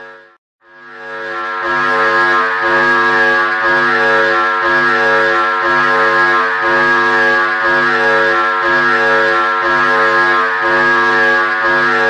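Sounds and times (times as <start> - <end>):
synthesized alarm drone: 0.0 - 12.0.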